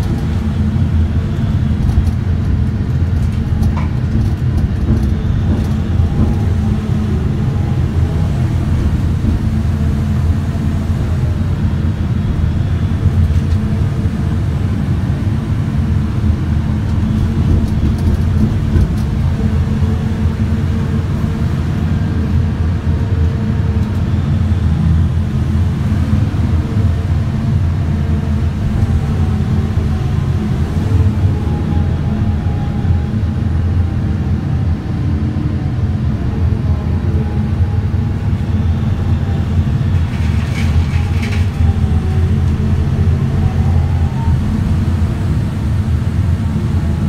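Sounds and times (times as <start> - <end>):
excavator machine drone: 0.0 - 47.0.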